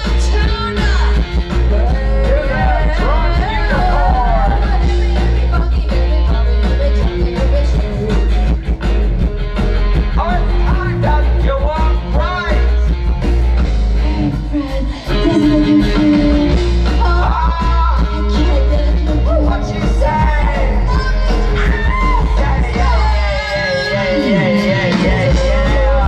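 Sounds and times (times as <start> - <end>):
person singing: 0.0 - 8.7, 10.1 - 12.9, 13.9 - 26.0
rock band playing live: 0.0 - 26.0.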